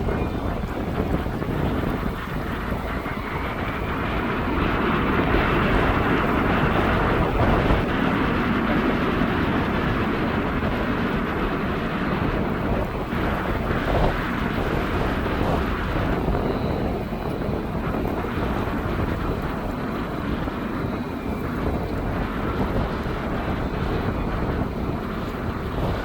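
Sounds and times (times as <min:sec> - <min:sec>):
faint high whine: 0:00.0 - 0:26.0
jet engines rumbling: 0:00.0 - 0:26.0
wind buffeting microphone: 0:00.0 - 0:26.0.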